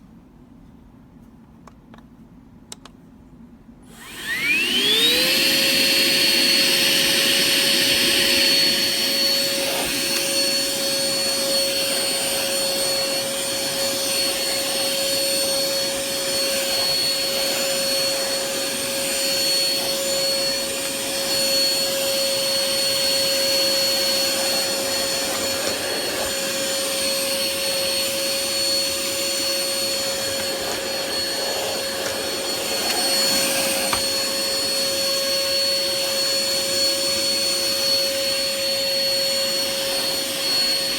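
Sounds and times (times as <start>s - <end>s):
cordless vacuum running: 3.9s - 40.9s.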